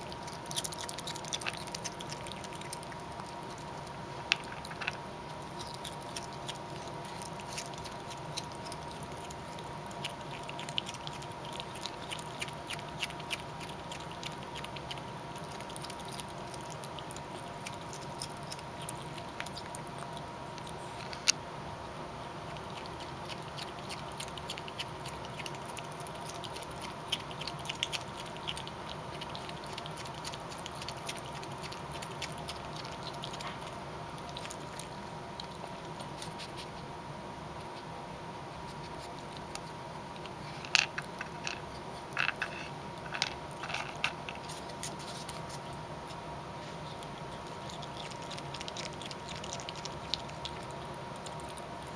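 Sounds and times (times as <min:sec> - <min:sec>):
animals crunching food: 0:00.0 - 0:37.0, 0:38.5 - 0:51.9.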